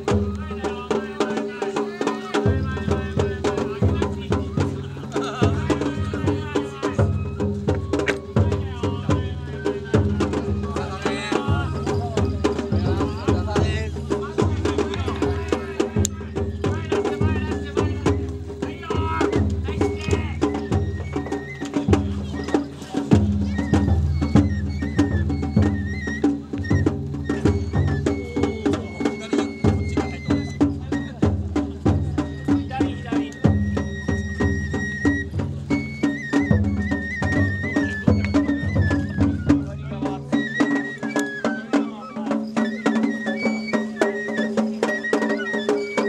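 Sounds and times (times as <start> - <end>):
bamboo flute melody: 0.0 - 46.0.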